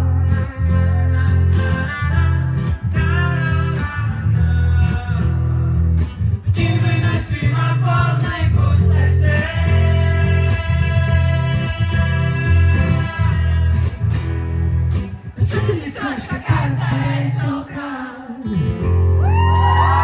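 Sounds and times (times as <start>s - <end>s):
bass line: 0.0s - 17.6s, 18.5s - 20.0s
guitar-led band music: 0.0s - 17.6s.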